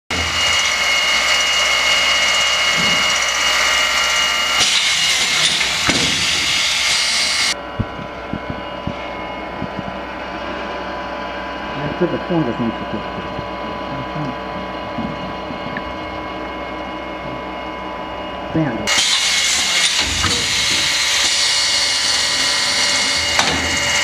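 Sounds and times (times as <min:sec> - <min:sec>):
machine hissing and whining: 0:00.1 - 0:24.0
machine hum: 0:00.1 - 0:24.0.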